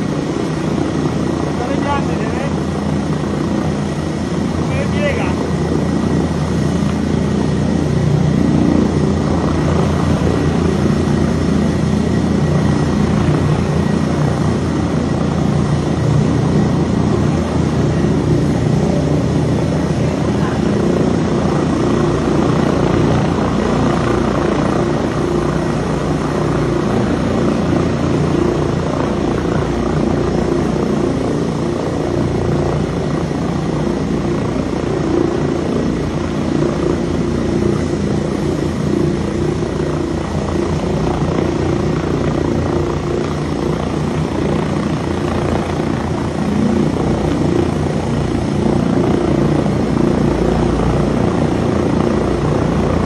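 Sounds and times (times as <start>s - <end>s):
helicopter rotor beating: 0.0s - 53.0s.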